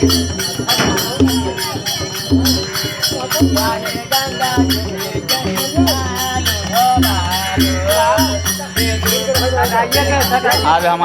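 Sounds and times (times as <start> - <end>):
jingling shaker percussion: 0.0 - 11.0.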